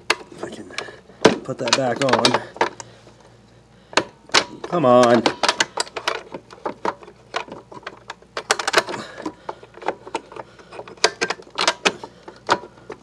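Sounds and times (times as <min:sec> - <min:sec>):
plastic cover clicks and rattles: 0:01.3 - 0:02.9, 0:04.0 - 0:13.0.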